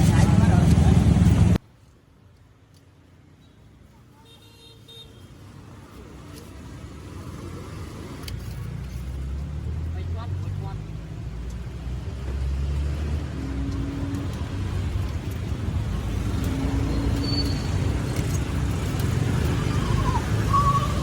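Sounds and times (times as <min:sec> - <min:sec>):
vehicle engines passing by: 0:00.0 - 0:01.6, 0:03.0 - 0:21.0.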